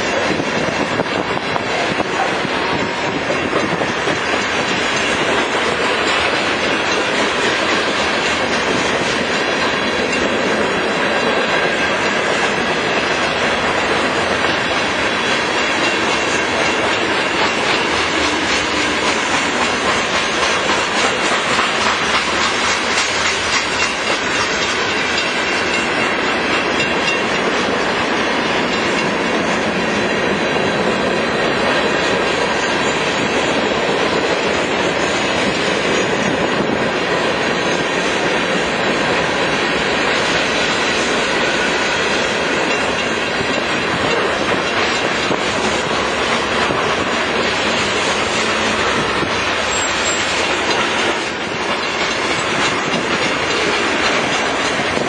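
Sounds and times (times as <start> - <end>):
freight train rumbling past: 0.0 - 55.0
wheels clickety-clack on rails: 0.0 - 55.0.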